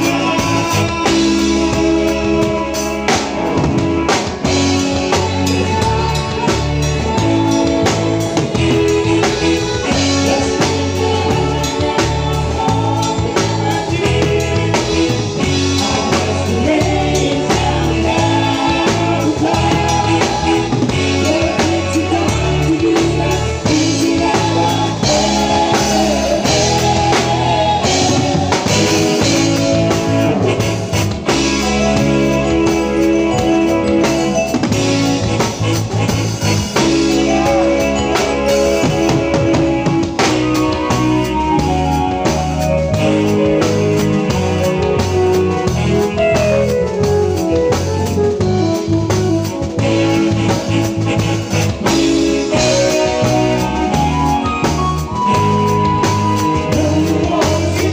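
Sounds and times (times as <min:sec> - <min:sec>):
person singing: 0:00.0 - 0:48.8, 0:49.6 - 0:57.9
bass line: 0:00.0 - 0:57.9
drum kit: 0:00.0 - 0:57.9.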